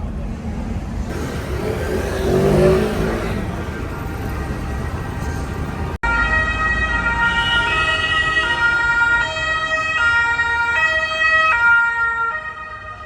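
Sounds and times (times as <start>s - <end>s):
street traffic noise: 0.0s - 13.0s
two-tone emergency siren: 1.4s - 13.0s.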